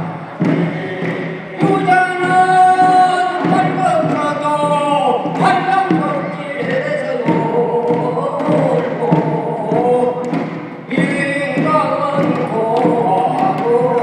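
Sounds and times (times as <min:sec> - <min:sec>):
person singing long held notes: 0:00.0 - 0:14.0.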